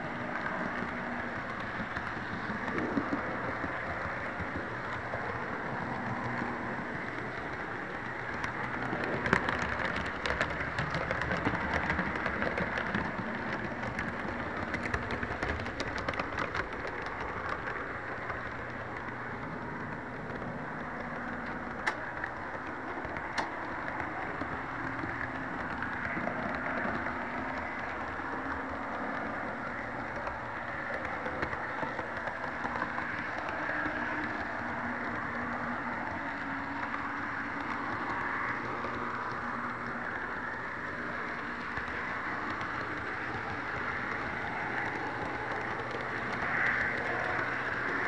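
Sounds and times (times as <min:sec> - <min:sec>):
model train motor and wheels rumbling: 0:00.0 - 0:48.0
rapid clicking over rails: 0:00.0 - 0:48.0.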